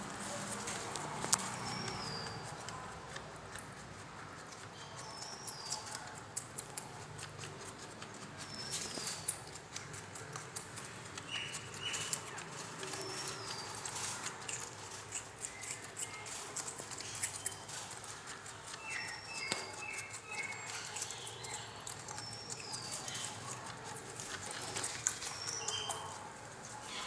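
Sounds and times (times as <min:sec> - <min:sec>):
birds chirping: 0:00.0 - 0:27.0
rabbits chewing: 0:00.0 - 0:27.0.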